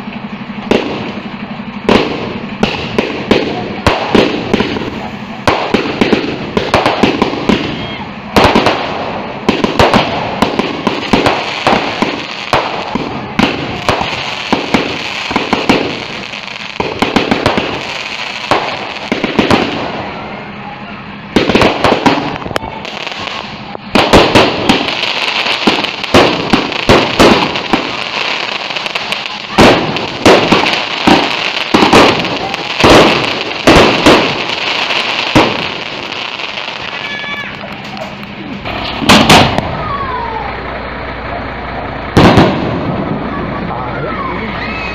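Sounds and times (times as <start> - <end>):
fireworks pops and crackles: 0.0 - 20.2, 21.3 - 39.9, 42.1 - 43.6
fireworks hiss: 0.0 - 44.9.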